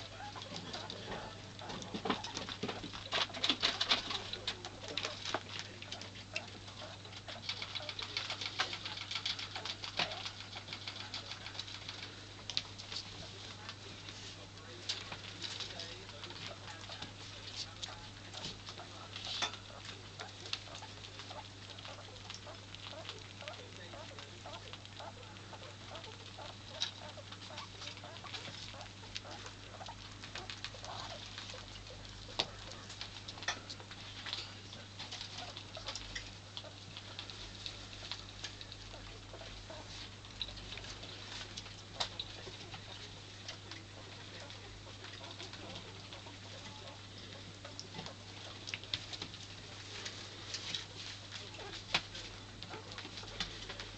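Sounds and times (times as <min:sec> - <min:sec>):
rats clicking and crunching: 0:00.0 - 0:53.9.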